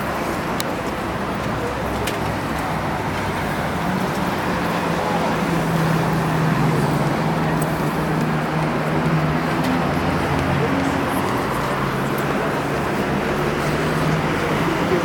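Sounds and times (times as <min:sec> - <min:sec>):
street traffic: 0:00.0 - 0:15.0
vehicle engine humming: 0:00.0 - 0:15.0.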